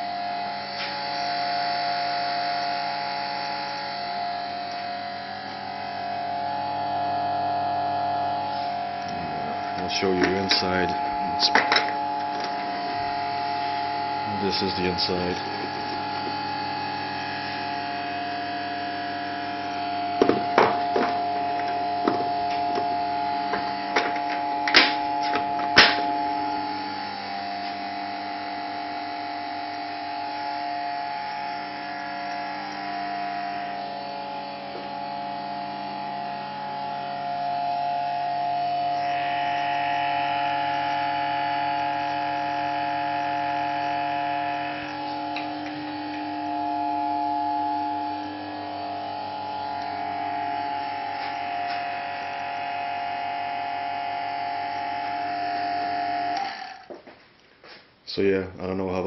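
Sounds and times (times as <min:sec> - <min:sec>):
vacuum pump humming: 0:00.0 - 0:57.8.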